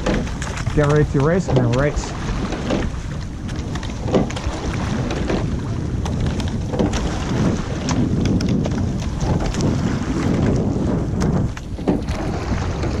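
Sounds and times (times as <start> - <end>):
faint oar clicks: 0.0 - 13.0
rush of water along a boat: 0.0 - 13.0
wind buffeting microphone: 0.0 - 13.0.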